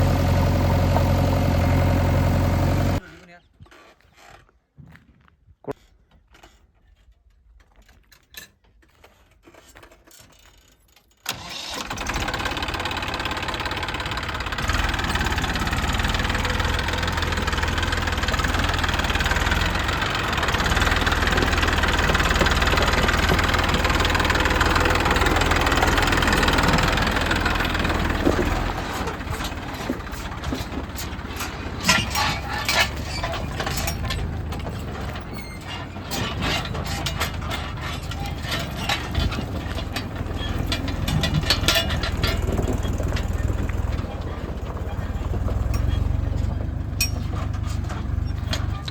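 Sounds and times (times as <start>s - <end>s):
diesel engine running: 0.0s - 3.0s, 11.3s - 48.9s
rattling clanks: 9.6s - 48.9s.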